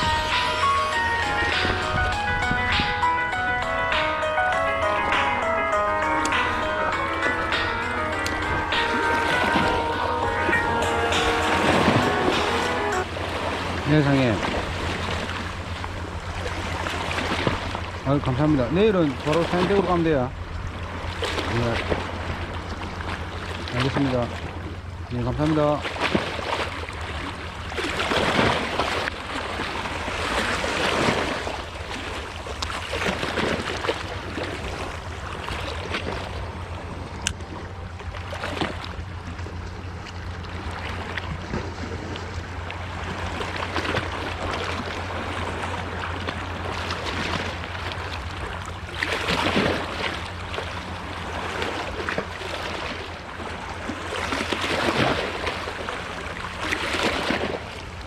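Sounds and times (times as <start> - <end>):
boat engine humming: 0.0 - 58.0
rushing wind and water: 0.0 - 58.0.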